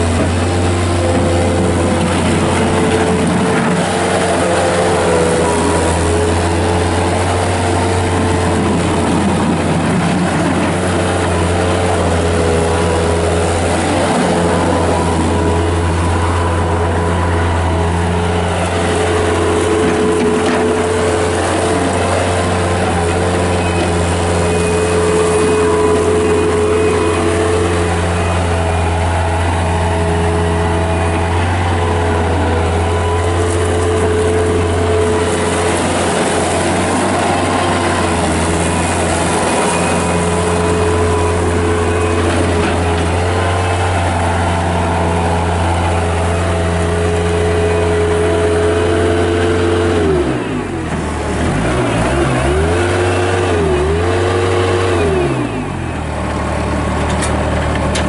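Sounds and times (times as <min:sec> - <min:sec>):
loader diesel engine running: 0:00.0 - 0:58.0.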